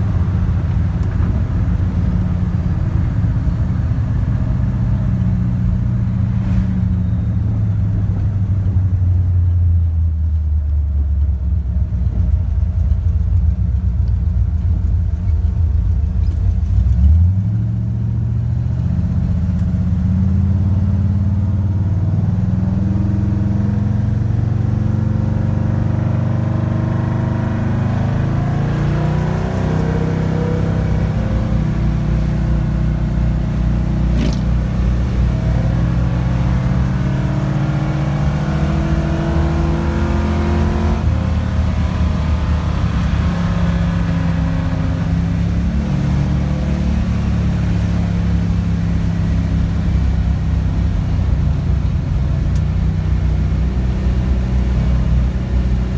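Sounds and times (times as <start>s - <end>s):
car engine running on highway: 0.0s - 55.9s.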